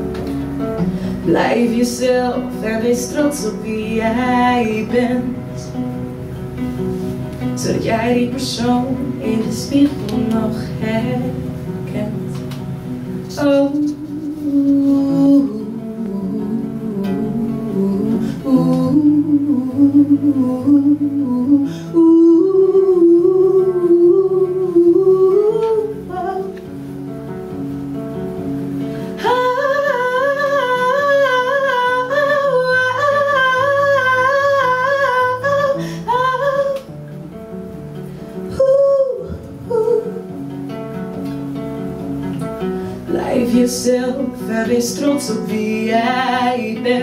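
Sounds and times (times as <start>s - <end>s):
woman singing wordless melody: 0.0s - 6.7s, 7.4s - 27.6s, 28.7s - 47.0s
strummed acoustic guitar: 0.0s - 47.0s.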